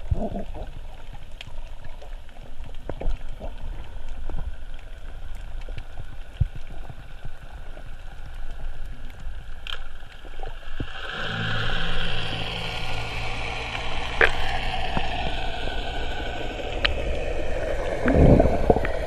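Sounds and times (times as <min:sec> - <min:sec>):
underwater low rumble: 0:00.0 - 0:19.0
low hum with hiss: 0:00.2 - 0:19.0.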